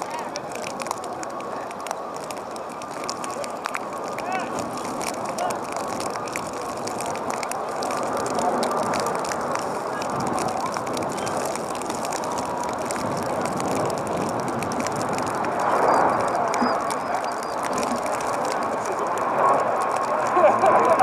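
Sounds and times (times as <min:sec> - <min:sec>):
faint clicks: 0:00.0 - 0:21.0
murmur of distant voices: 0:00.0 - 0:21.0.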